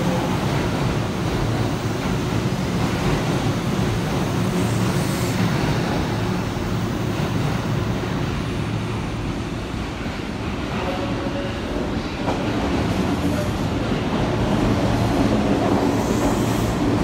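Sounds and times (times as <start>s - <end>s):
train running: 0.0s - 17.0s.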